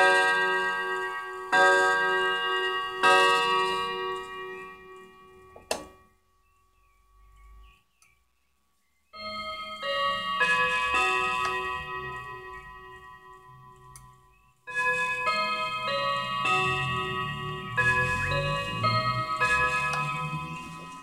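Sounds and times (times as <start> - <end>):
clock chime melody: 0.0 - 7.8, 9.2 - 21.0.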